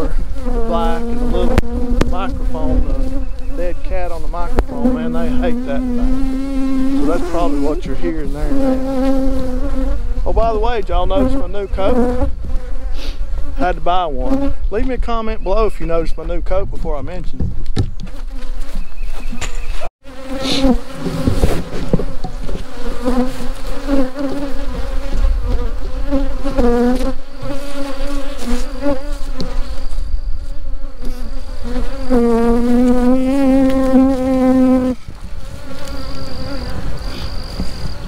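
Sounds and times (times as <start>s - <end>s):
honeybees buzzing: 0.0s - 16.0s, 18.0s - 38.0s.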